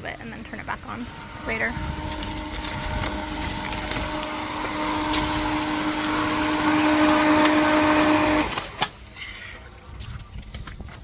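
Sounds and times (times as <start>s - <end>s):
pool pump motor humming: 0.0s - 11.0s.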